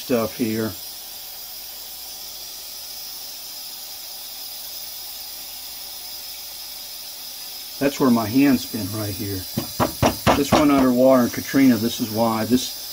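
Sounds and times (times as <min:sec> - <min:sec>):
steady high hiss: 0:00.0 - 0:12.9.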